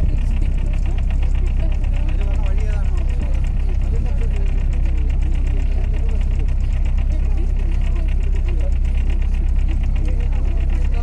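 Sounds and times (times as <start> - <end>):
boat engine running: 0.0 - 11.0
faint voices: 0.0 - 11.0.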